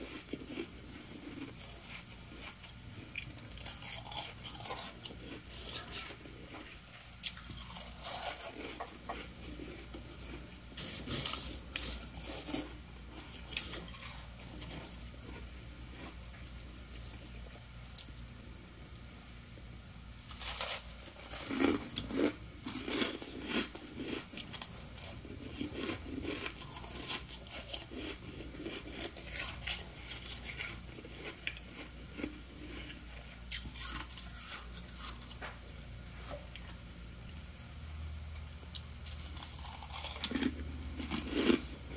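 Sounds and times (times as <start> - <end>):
chewing crunchy frost: 0.0 - 18.2, 20.3 - 35.5, 38.7 - 41.9.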